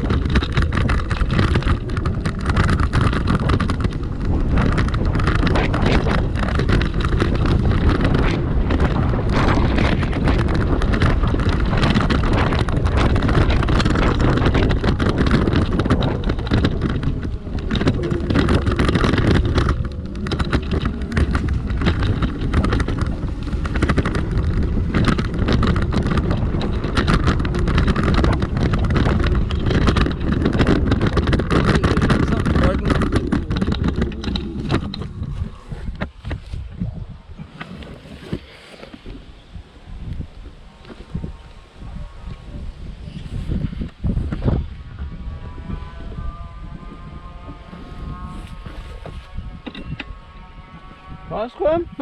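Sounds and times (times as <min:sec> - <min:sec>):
electric scooter rumble: 0:00.0 - 0:52.0
wind buffeting microphone: 0:00.0 - 0:52.0.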